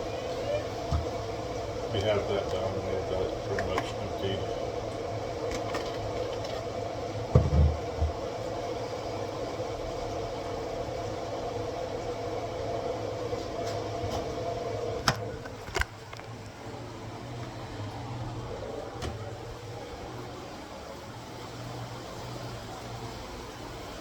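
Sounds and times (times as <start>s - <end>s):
appliance mechanical hum: 0.0s - 24.0s.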